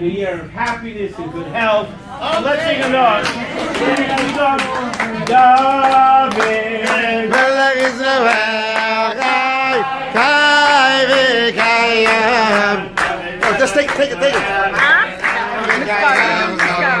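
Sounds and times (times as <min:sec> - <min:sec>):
group of people singing: 0:01.6 - 0:17.0
hand clapping: 0:02.2 - 0:09.5, 0:10.2 - 0:17.0.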